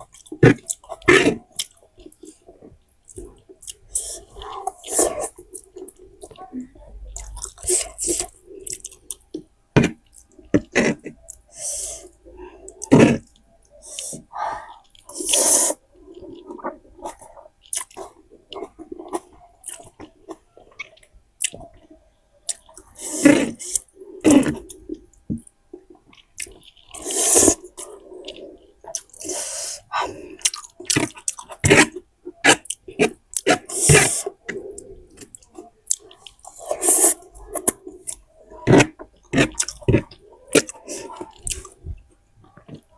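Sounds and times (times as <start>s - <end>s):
person chewing and slurping noodles: 0.0s - 6.5s, 7.1s - 42.9s.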